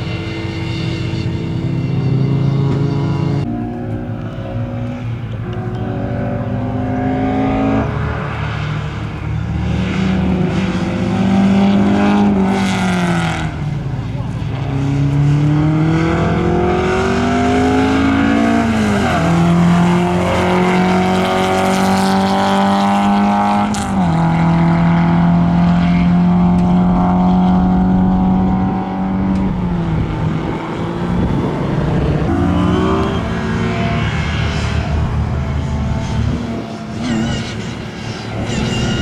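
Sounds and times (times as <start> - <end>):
race car engine accelerating: 0.0 - 39.0.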